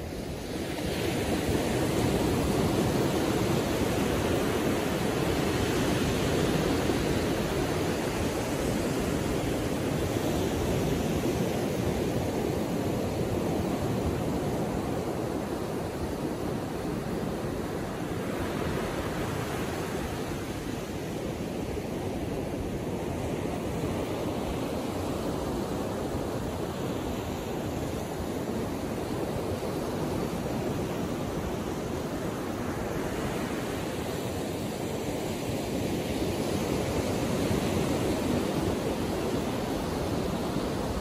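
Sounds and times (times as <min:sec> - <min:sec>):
small waves breaking on beach: 0:00.0 - 0:41.0.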